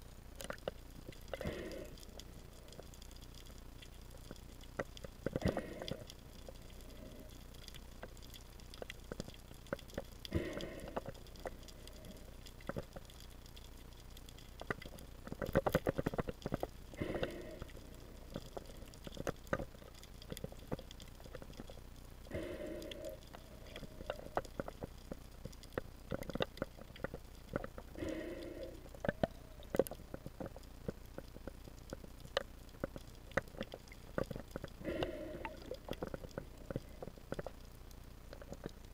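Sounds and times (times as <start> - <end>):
underwater clicks and crackles: 0.0 - 38.9.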